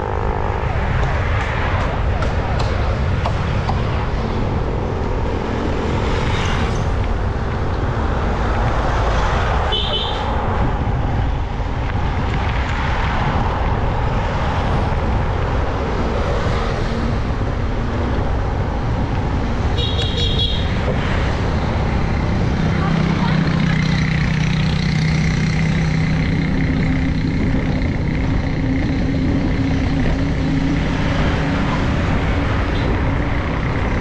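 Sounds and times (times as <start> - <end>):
passing motor traffic: 0.0 - 34.0
road noise: 0.0 - 34.0
wind rush on microphone: 0.0 - 34.0.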